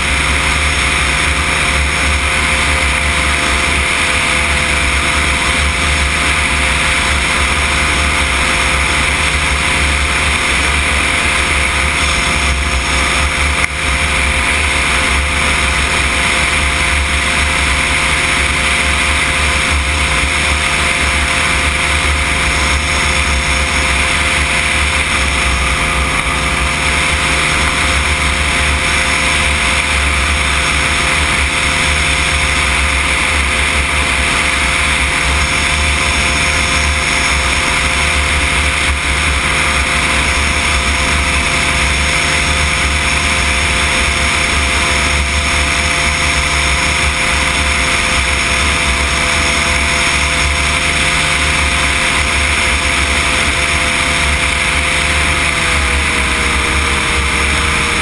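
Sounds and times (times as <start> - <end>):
microlight engine drone: 0.0 - 58.0.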